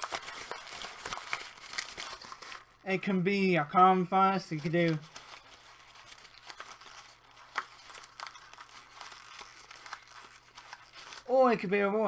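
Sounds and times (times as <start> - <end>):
paper scrunched in hands: 0.0 - 2.9, 3.8 - 12.0.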